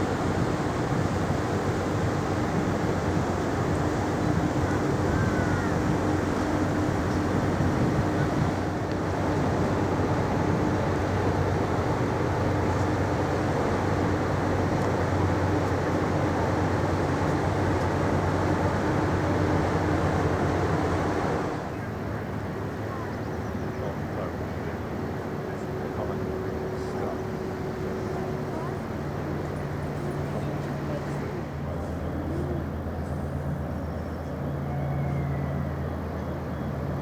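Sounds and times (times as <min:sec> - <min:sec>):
ship engines droning: 0:00.0 - 0:37.0.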